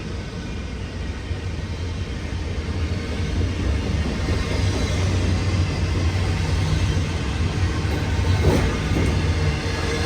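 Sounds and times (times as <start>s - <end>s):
freight train wheels rumbling on rails: 0.0s - 10.0s.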